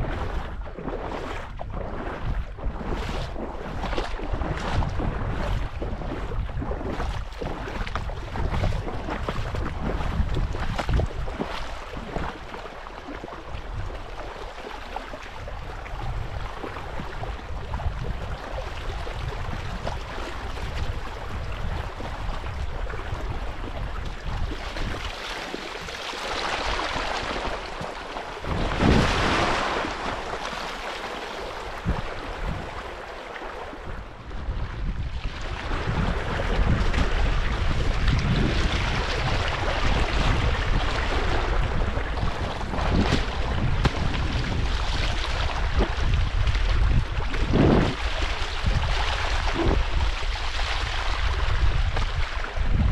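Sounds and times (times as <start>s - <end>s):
wind rumbling on microphone: 0.0s - 52.9s.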